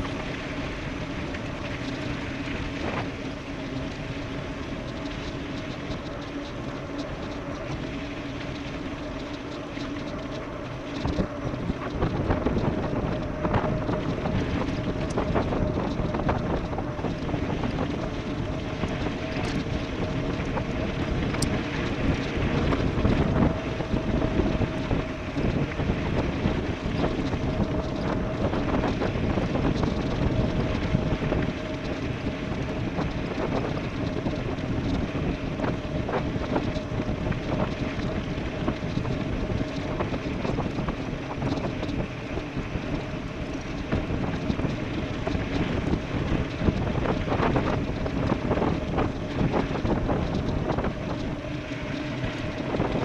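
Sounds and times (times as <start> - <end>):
bike tyre rumble: 0.0 - 53.0
faint steady hum: 0.0 - 53.0
wind buffeting microphone: 0.0 - 53.0.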